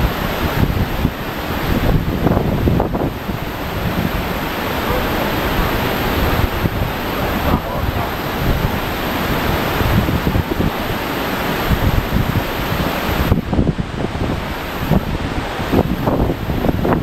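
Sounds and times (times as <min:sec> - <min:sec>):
water surging over stone bank: 0:00.0 - 0:17.0
wind buffeting microphone: 0:00.0 - 0:17.0.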